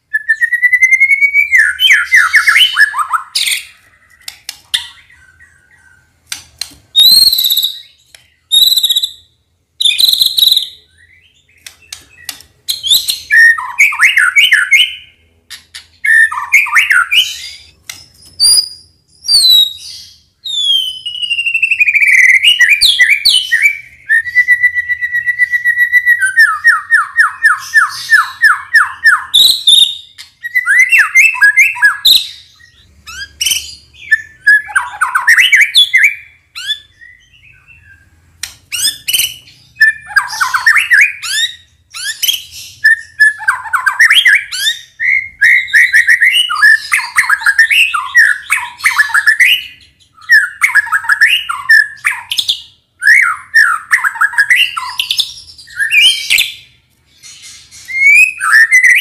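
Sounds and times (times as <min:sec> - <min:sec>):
bird singing varied song: 0:00.0 - 0:59.0.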